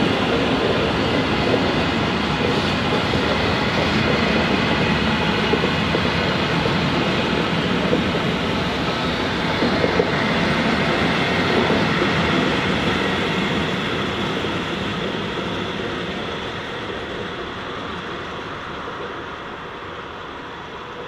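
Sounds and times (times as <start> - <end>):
train rolling past: 0.0 - 21.0.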